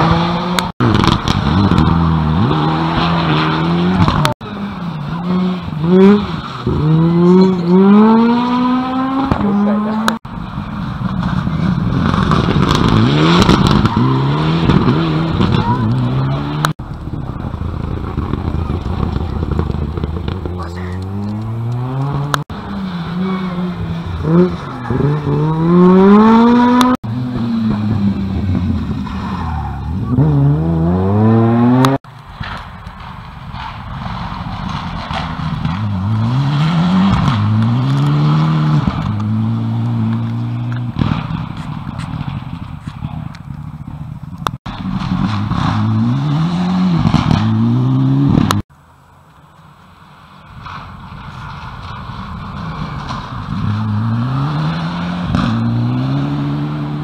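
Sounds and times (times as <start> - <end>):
rally car engines revving: 0.0 - 32.0, 33.6 - 48.7, 50.0 - 57.0.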